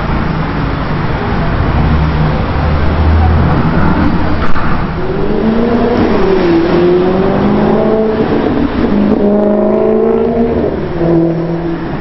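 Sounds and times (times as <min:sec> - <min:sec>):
car engine revving: 0:01.2 - 0:12.0.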